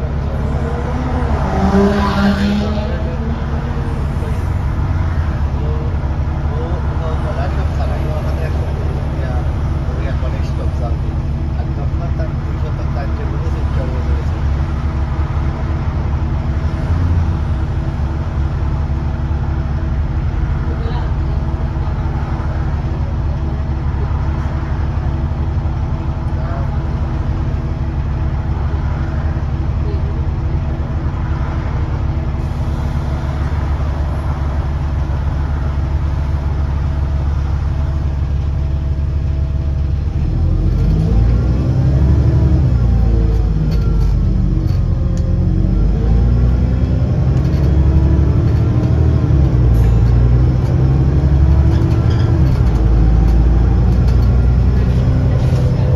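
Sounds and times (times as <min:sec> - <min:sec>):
bus diesel engine drone: 0:00.0 - 0:55.9.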